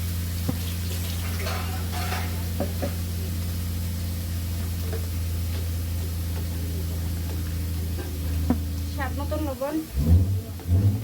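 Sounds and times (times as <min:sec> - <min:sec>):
food sizzling in oil: 0:00.0 - 0:10.2.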